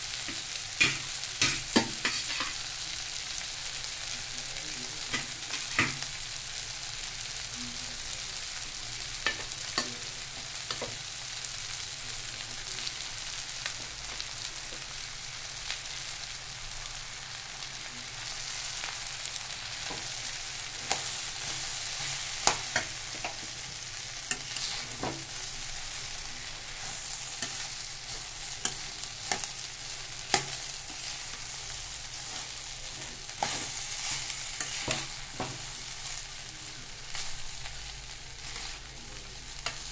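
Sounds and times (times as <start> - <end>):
rice frying sizzle: 0.0 - 39.9.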